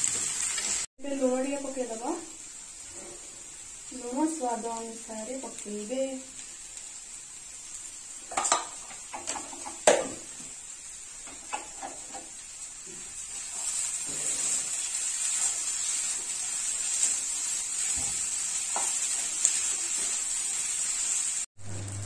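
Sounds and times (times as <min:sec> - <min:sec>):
stuffing sizzling in a frying pan: 0:00.0 - 0:22.0.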